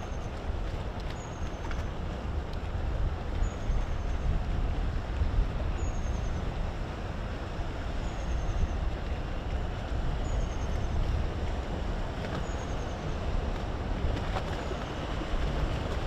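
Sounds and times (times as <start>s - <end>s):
ship engine rumble: 0.0s - 16.0s.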